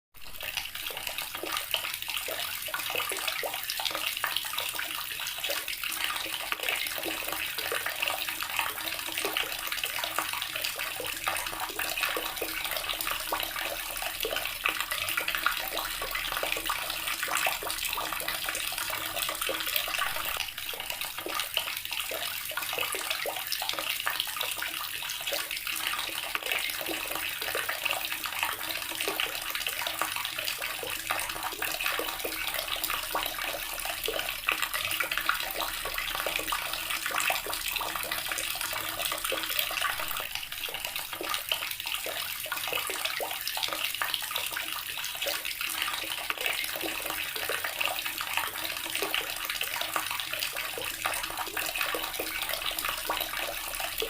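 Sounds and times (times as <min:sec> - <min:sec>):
water running from a tap: 0:00.2 - 0:54.0.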